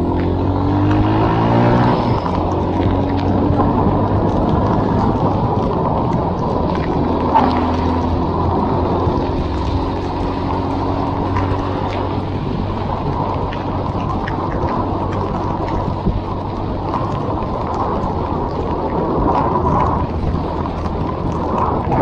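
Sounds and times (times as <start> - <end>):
heavy rain and wind noise: 0.0 - 22.0
motorcycle engine hum: 0.0 - 22.0
raindrops tapping microphone: 0.0 - 22.0.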